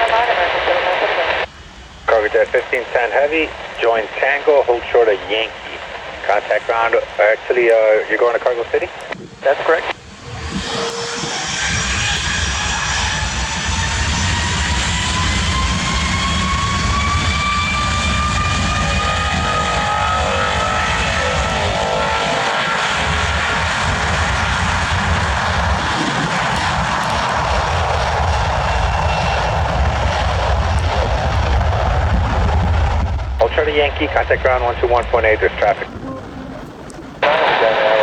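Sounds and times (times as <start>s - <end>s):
jet engines whining and rumbling: 0.0s - 38.0s.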